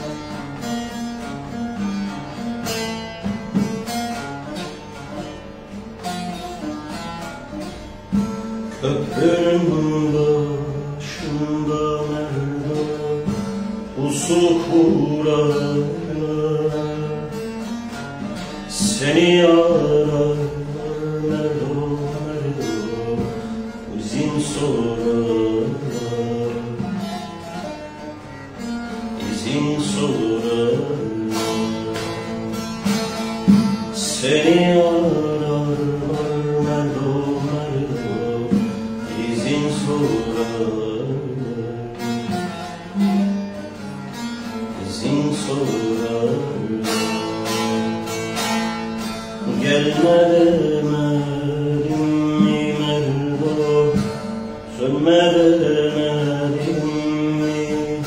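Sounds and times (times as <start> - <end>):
saz playing folk song: 0.0 - 58.0
man singing: 8.1 - 27.7, 28.9 - 43.2, 44.4 - 48.4, 49.3 - 58.0.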